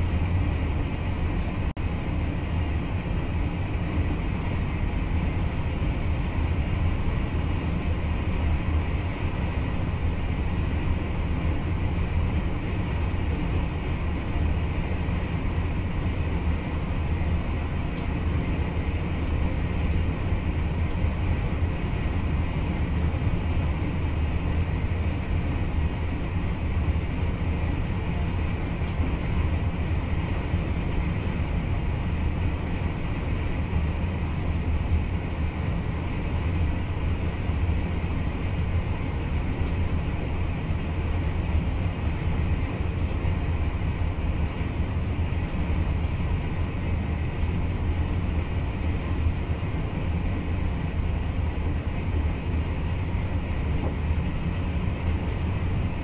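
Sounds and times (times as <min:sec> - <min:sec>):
train running low rumble: 0:00.0 - 0:56.0.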